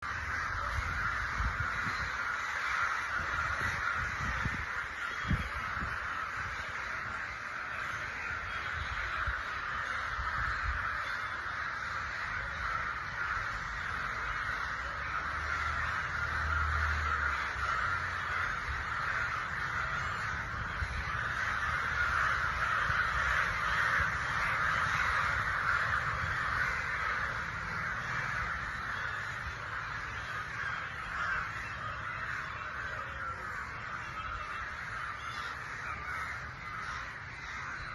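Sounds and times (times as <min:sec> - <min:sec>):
crows cawing: 0:00.0 - 0:37.9.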